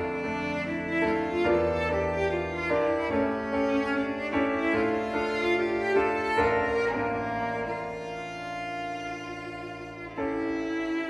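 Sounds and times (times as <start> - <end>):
bowed strings: 0.0 - 11.0
piano: 0.0 - 11.0.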